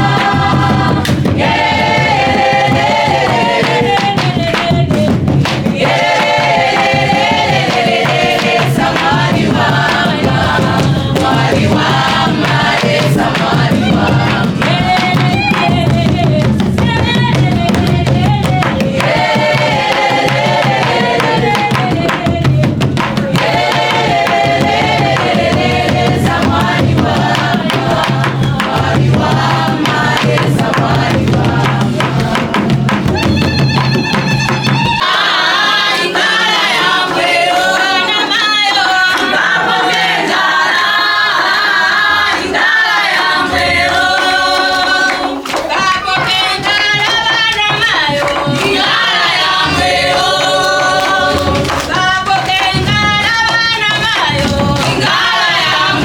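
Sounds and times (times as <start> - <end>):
group singing worship song: 0.0 - 56.0
instrumental accompaniment with percussion: 0.0 - 56.0.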